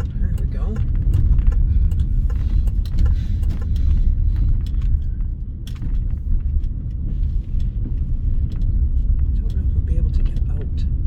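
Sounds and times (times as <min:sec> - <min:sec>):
car road noise rumble: 0:00.0 - 0:11.0
light ticks: 0:00.0 - 0:11.0.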